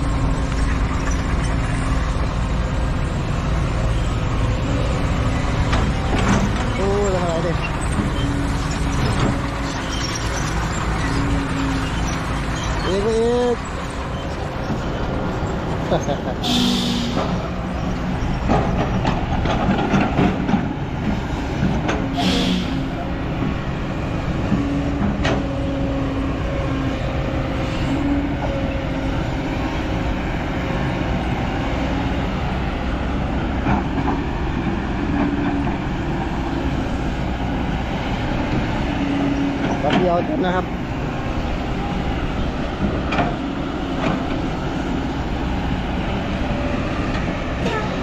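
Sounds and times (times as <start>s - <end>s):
heavy diesel machinery running: 0.0s - 48.0s.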